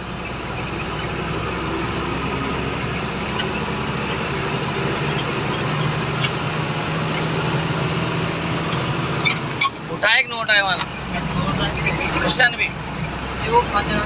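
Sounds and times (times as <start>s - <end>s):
truck engine running: 0.0s - 14.0s
tyre and road noise: 0.0s - 14.0s.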